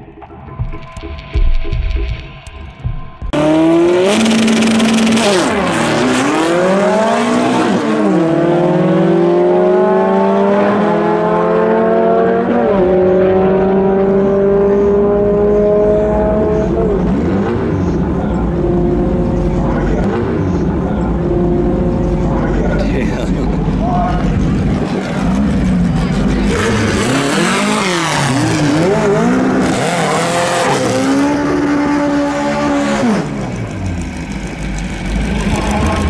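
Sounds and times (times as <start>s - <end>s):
drag car engine accelerating: 3.3s - 36.0s.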